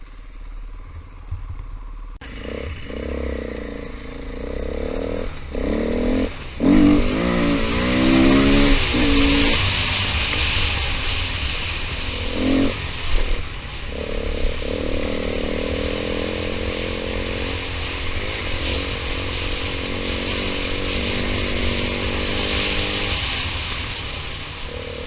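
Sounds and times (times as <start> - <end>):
hiss and rumble from riding: 0.0 - 25.0
dirt bike engine revving: 2.2 - 25.0.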